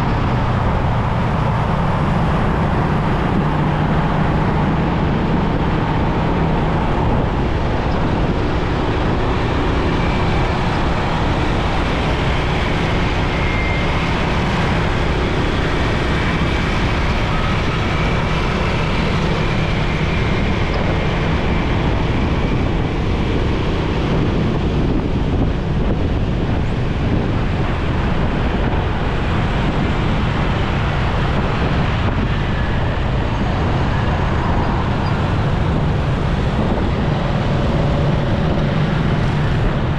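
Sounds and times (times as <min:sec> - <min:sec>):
road traffic: 0:00.0 - 0:39.9
wind rushing over microphone: 0:00.0 - 0:39.9.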